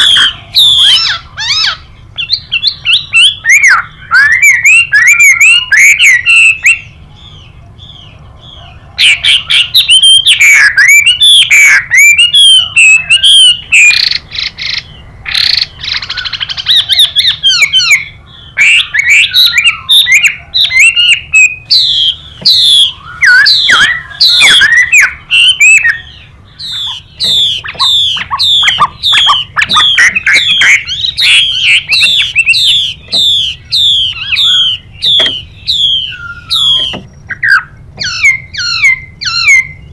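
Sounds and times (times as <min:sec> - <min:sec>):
bird harsh calls: 0:00.0 - 0:39.9
bird singing whistled notes: 0:00.0 - 0:39.9.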